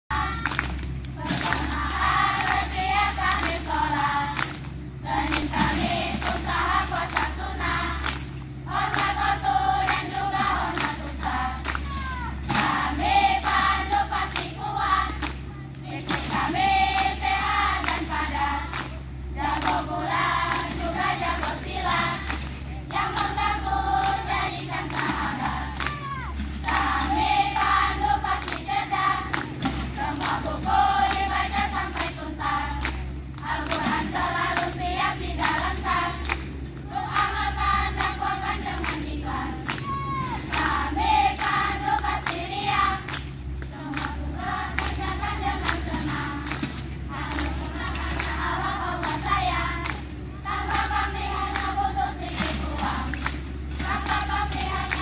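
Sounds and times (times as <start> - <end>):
group singing and chanting in unison: 0.1 - 55.0.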